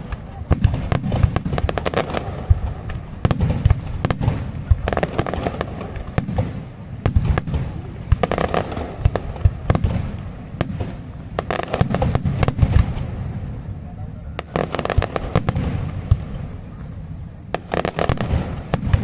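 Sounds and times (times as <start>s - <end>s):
fireworks booming: 0.0s - 19.0s
fireworks cracking: 0.0s - 19.0s.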